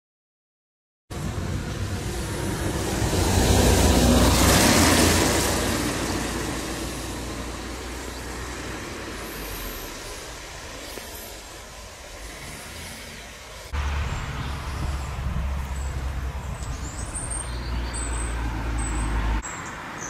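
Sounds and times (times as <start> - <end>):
background traffic: 1.1 - 20.0
vehicle passing: 1.1 - 20.0.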